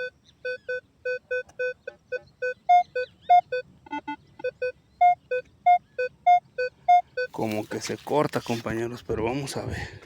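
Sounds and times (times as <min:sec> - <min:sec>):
metal detector beeping: 0:00.0 - 0:08.6.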